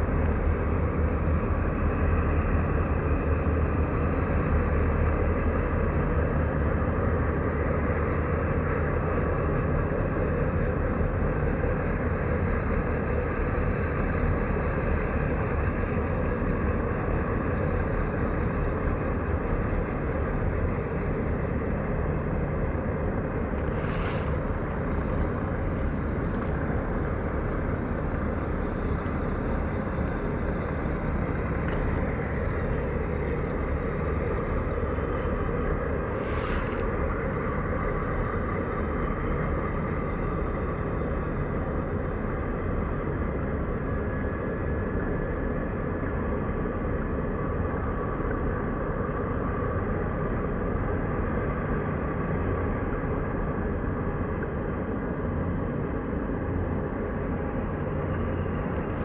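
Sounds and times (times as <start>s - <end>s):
ship engines rumbling: 0.0s - 59.0s.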